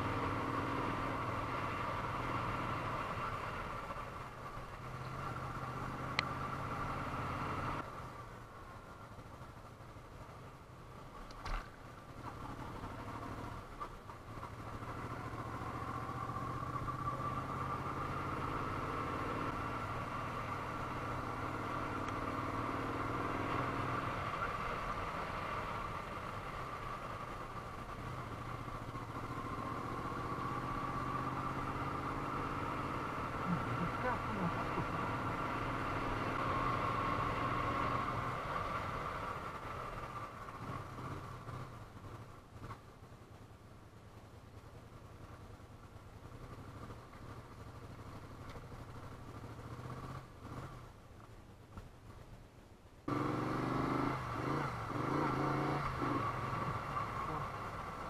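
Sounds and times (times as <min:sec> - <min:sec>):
motorcycle engine running: 0:00.0 - 0:52.4, 0:53.1 - 0:58.0.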